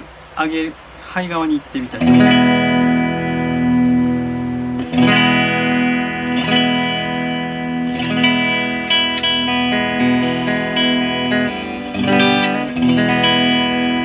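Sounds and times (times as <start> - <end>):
electric guitar strummed chords: 1.8 - 14.0.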